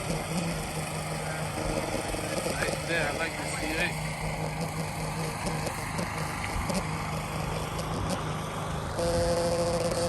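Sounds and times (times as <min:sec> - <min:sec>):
car engine idling: 0:00.0 - 0:10.0
steady humming tone: 0:00.0 - 0:10.0.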